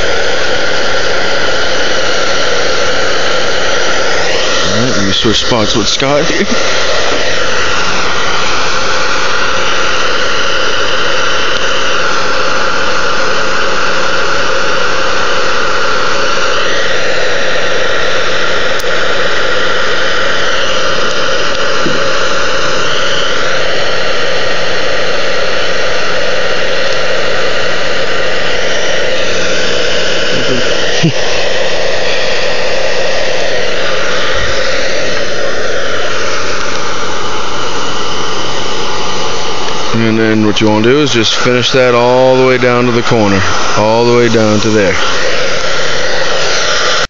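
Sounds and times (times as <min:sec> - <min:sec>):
hot-air blower whirring: 0:00.0 - 0:47.0.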